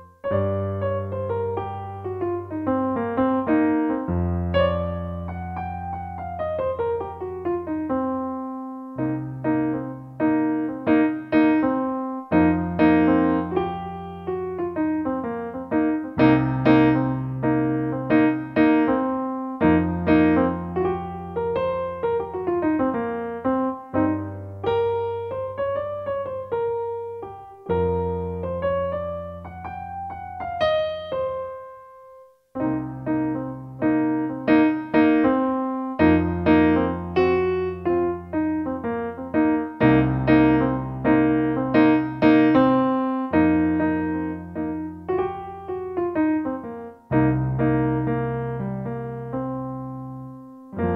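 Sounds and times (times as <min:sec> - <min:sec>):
gentle piano music: 0:00.0 - 0:50.9.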